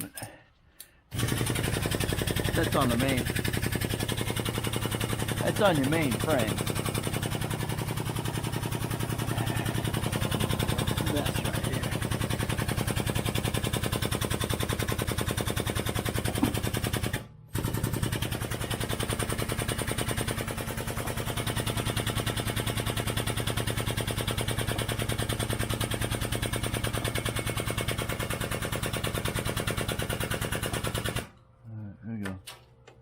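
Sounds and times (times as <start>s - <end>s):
impact wrench rattling: 1.1s - 31.3s.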